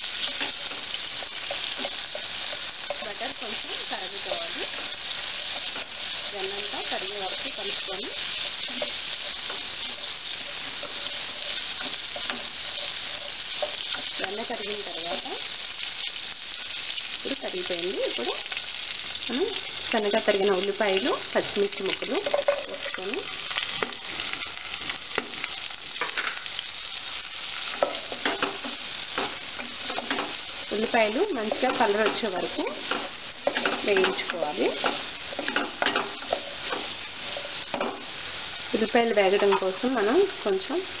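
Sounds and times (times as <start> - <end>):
butter sizzling in a pan: 0.0 - 41.0.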